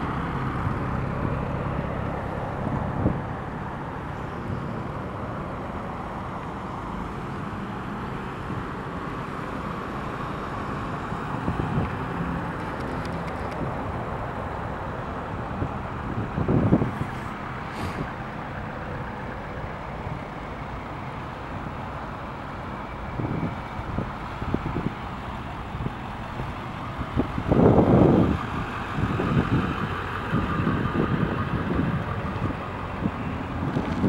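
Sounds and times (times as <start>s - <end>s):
cars driving past: 0.0s - 34.0s.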